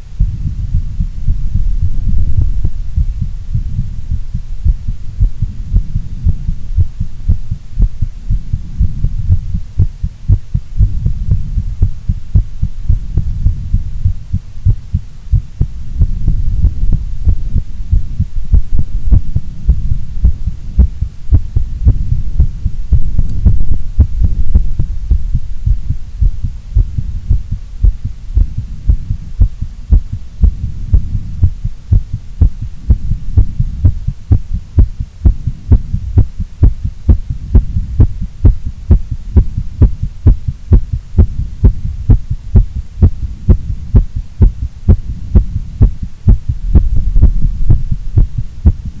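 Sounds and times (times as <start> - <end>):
heartbeat: 0.0 - 49.0
steady low rumble: 0.0 - 49.0.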